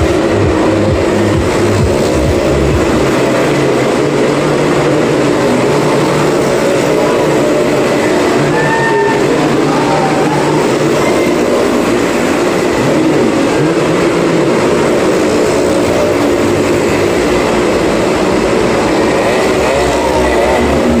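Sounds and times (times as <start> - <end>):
motorcycle engines running loud: 0.0 - 21.0.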